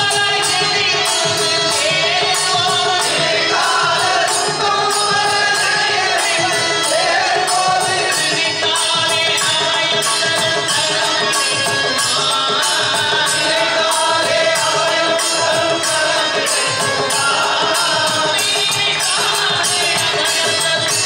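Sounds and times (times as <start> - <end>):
harmonium: 0.0 - 21.0
man singing lead: 0.0 - 21.0
men's chorus singing: 0.0 - 21.0
percussion beat: 0.0 - 21.0.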